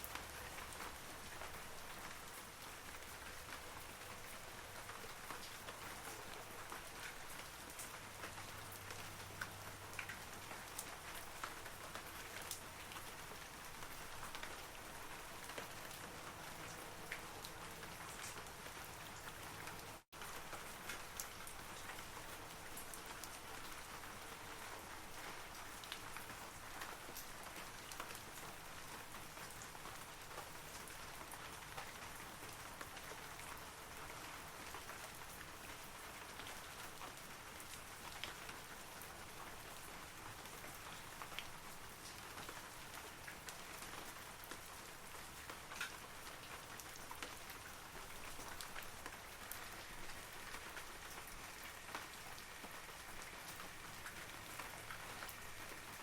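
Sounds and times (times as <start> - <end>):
rain falling on trees: 0.0 - 56.0.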